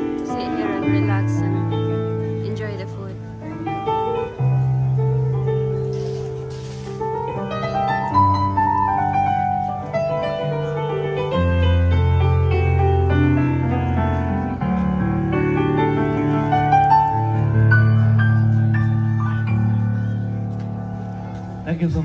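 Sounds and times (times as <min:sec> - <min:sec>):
piano melody over low notes: 0:00.0 - 0:22.0.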